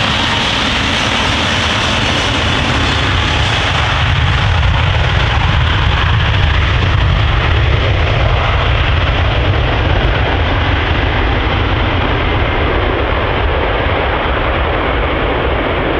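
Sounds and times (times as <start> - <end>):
turboprop engines at takeoff power: 0.0 - 15.9.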